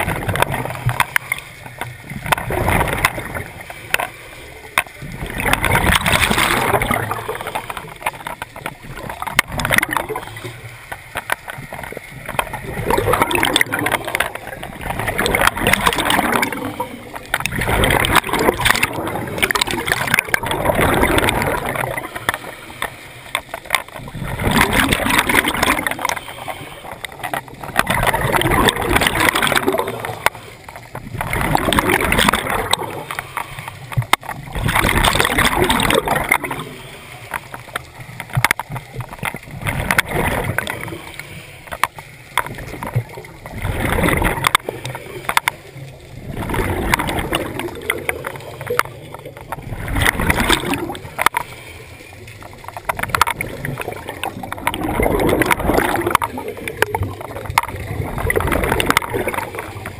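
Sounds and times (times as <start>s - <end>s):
scuba exhale bubbles gurgling: 0.0s - 59.9s.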